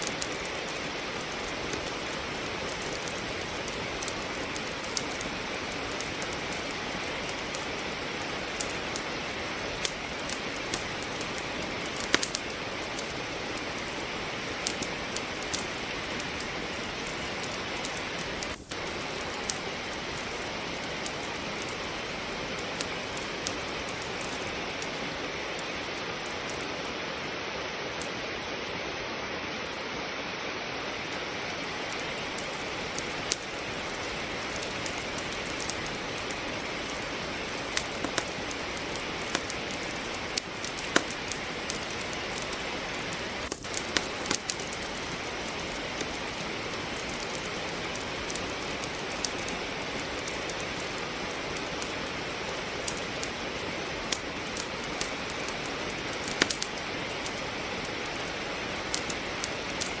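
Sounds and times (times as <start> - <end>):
logs crackling in fireplace: 0.0 - 60.0
steady rain: 0.0 - 60.0.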